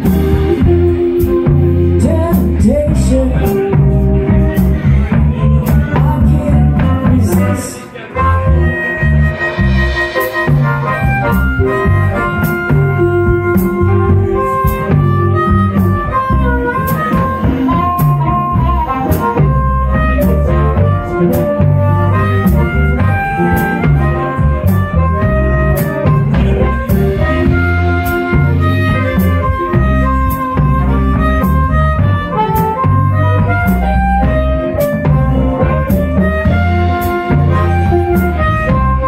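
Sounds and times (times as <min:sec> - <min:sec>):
harmonica solo: 0:00.0 - 0:05.4, 0:06.4 - 0:39.0
drums: 0:00.0 - 0:39.0
electric bass: 0:00.0 - 0:39.0.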